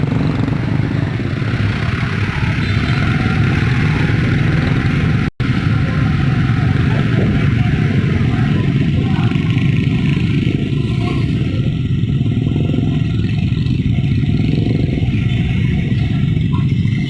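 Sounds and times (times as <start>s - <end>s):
motorcycle and vehicle engines: 0.0s - 17.0s.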